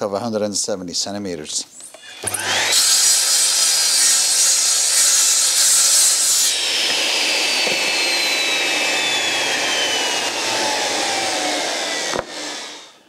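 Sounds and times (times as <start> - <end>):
mitre saw cutting wood: 2.0 - 13.0
saw blade winding down: 2.0 - 13.0.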